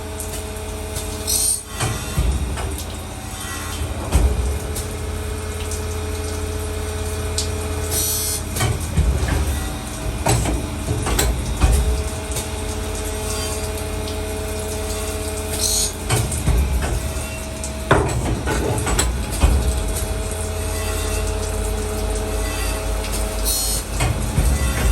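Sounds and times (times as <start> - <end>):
machine motor hum with whine: 0.0 - 24.9
machine knocks and clunks: 1.7 - 13.9, 15.5 - 22.2, 23.1 - 24.9.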